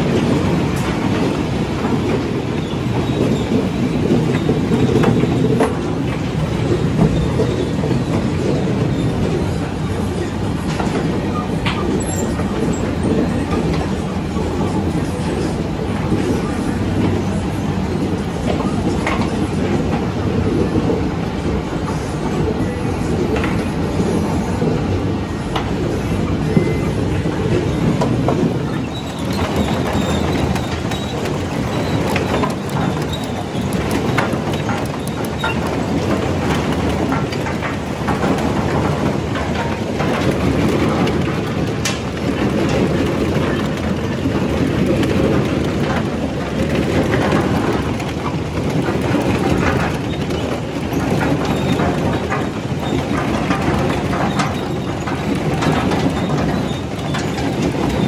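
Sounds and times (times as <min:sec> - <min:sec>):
machinery rattle and rumble: 0:00.0 - 0:58.0.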